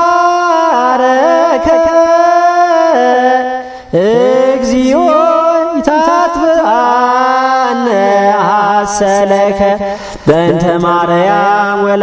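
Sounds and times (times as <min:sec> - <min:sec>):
person chanting prayer: 0:00.0 - 0:12.0.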